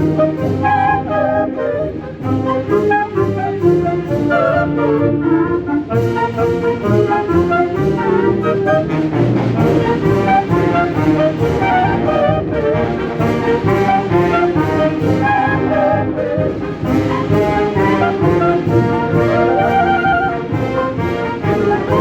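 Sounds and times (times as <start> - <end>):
brass chords: 0.0 - 22.0.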